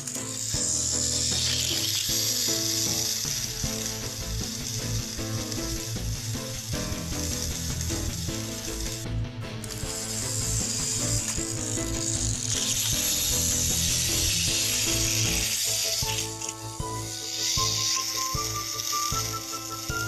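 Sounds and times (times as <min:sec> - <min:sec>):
background music: 0:00.0 - 0:20.0
toy train motors whirring: 0:00.0 - 0:20.0.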